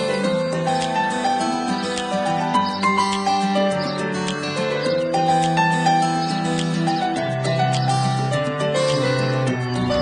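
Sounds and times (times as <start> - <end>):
light ticking percussion: 0.0 - 10.0
soft melodic tune: 0.0 - 10.0.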